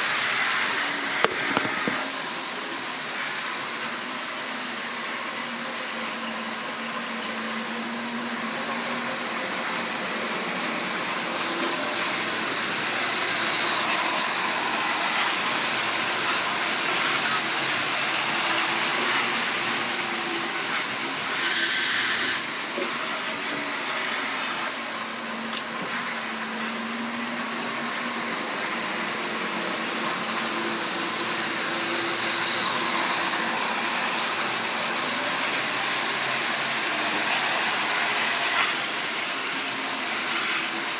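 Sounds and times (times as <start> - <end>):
model train motor whirring: 0.0 - 5.6, 8.5 - 26.8, 27.8 - 40.9.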